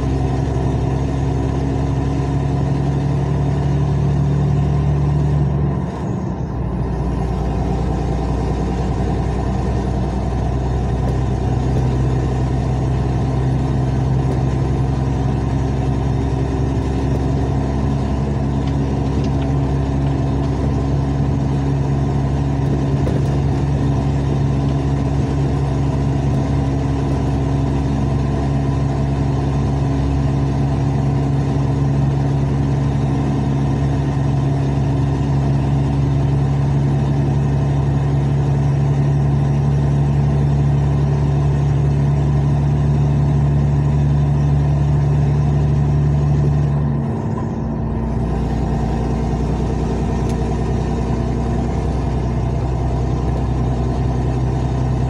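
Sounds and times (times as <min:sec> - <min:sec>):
truck engine with loud exhaust: 0:00.0 - 0:55.0.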